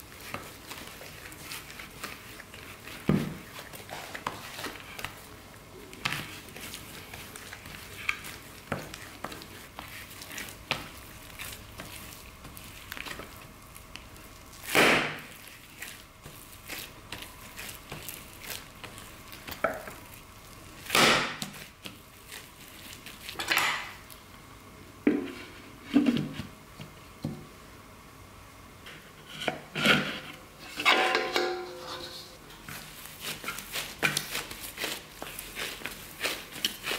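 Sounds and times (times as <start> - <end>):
dough squelches: 0.0 - 27.2, 28.8 - 36.9
dough kneading crackles and squishes: 0.0 - 30.8, 31.5 - 36.9.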